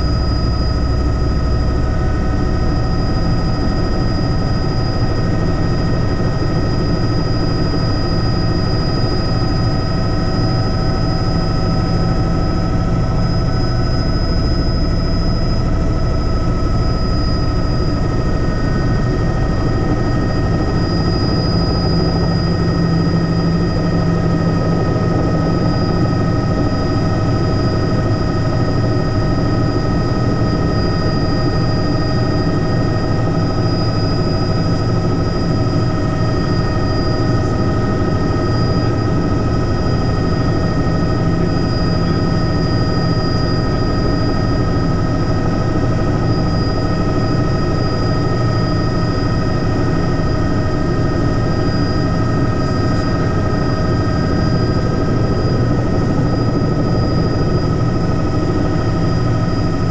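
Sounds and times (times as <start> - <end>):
helicopter engine and rotor rumble: 0.0 - 59.9
high whine: 0.0 - 59.9.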